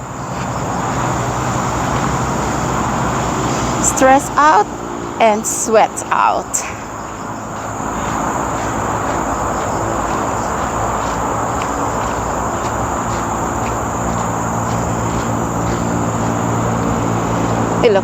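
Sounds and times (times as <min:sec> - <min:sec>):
high-pitched insect drone: 0:00.0 - 0:18.0
low engine hum: 0:00.0 - 0:18.0
road traffic noise: 0:00.0 - 0:18.0.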